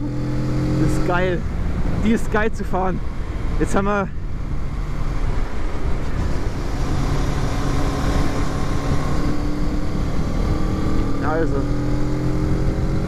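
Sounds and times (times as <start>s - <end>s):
wind rush: 0.0s - 13.0s.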